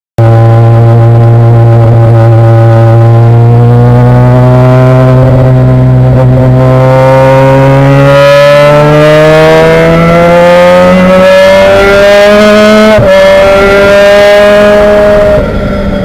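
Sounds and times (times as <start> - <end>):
race car engine revving: 0.2 - 16.0.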